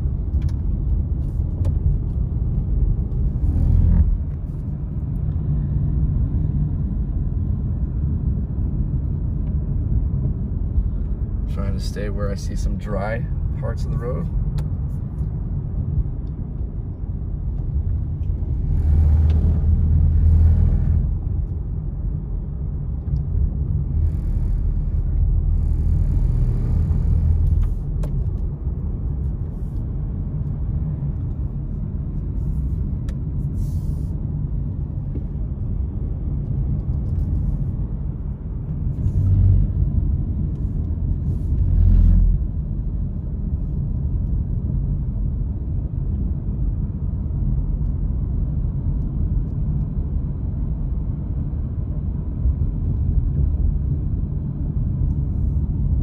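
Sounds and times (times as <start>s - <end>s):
car engine and tyres rumble: 0.0s - 56.0s.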